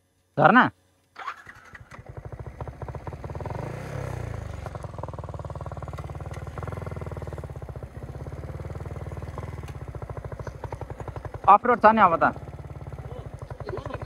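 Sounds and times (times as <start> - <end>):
motorcycle engine running: 1.2 - 14.0.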